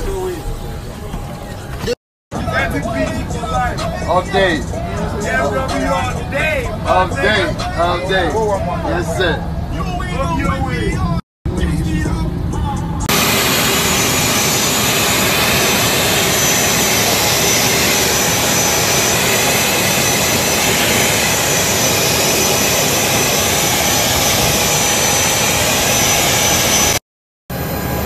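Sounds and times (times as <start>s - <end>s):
jet engines roaring: 0.0s - 28.0s.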